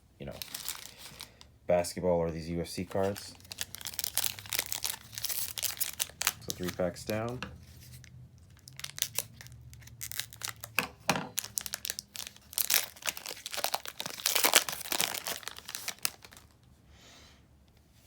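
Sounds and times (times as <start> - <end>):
wrapper crinkling and tearing: 0.2 - 1.5, 2.8 - 16.6.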